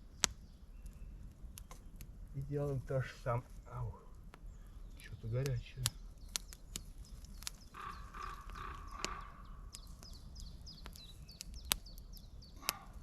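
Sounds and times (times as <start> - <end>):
small bird chirping: 0.0 - 2.0, 4.4 - 13.0
campfire crackling and popping: 0.0 - 13.0.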